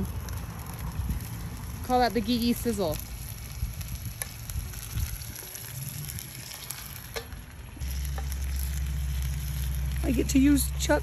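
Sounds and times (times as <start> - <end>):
chicken sizzling in hot oil: 0.0 - 11.0
steady low rumble: 0.0 - 11.0.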